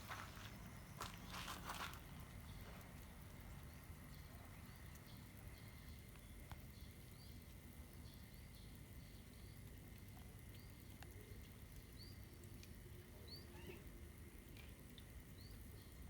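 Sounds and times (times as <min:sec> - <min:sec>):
low hiss and hum: 0:00.0 - 0:16.0.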